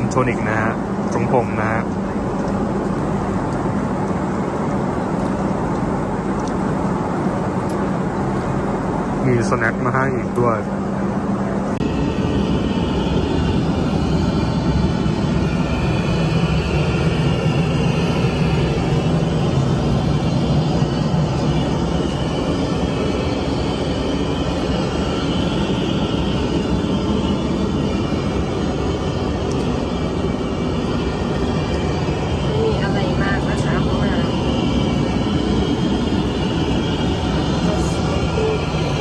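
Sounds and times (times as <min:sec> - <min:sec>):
airliner cabin engine noise: 0:00.0 - 0:39.0.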